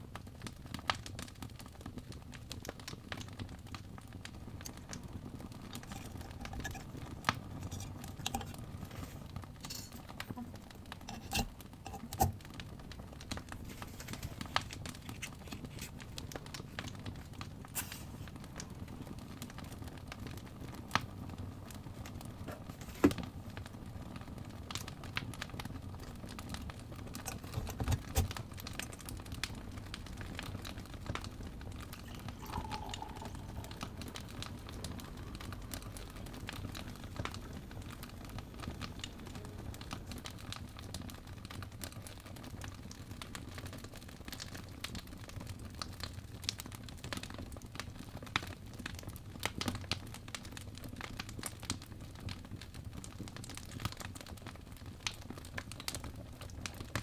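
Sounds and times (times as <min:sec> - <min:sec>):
fireplace crackling and popping: 0:00.0 - 0:57.0
low rumble of fire: 0:00.0 - 0:57.0.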